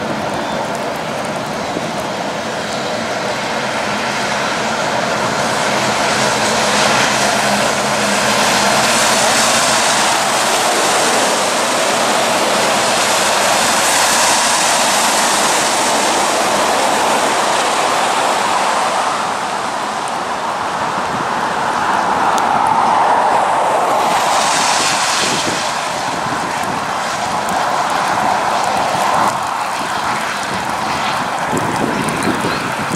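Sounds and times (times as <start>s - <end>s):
low truck engine drone: 0.0s - 32.9s
tyres hissing on wet road: 0.0s - 32.9s
wind and rain on microphone: 0.0s - 32.9s.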